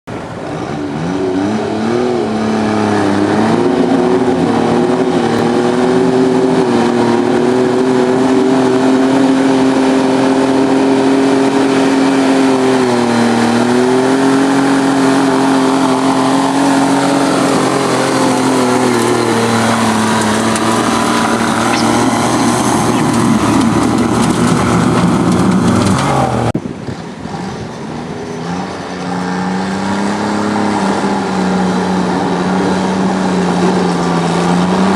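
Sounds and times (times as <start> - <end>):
diesel tractor engine under load: 0.1 - 34.9.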